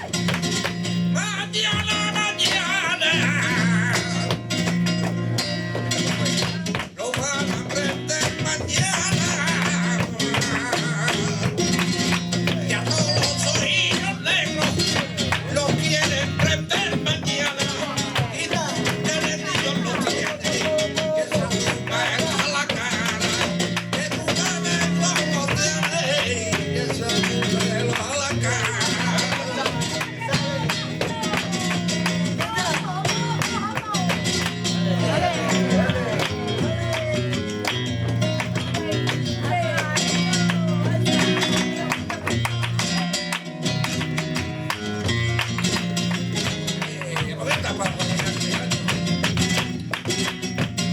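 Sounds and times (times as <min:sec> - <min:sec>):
flamenco guitar playing: 0:00.0 - 0:50.9
man singing: 0:01.0 - 0:04.7, 0:05.7 - 0:43.8, 0:44.6 - 0:49.6.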